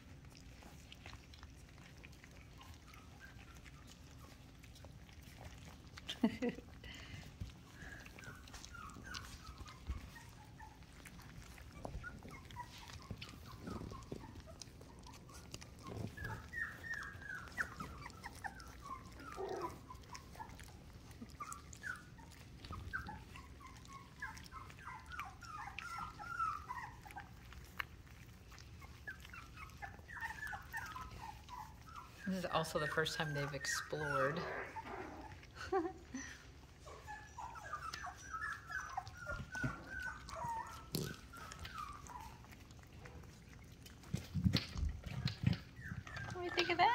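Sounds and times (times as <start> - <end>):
puppies lapping food: 0.0 - 46.9
puppies whimpering: 0.0 - 46.9.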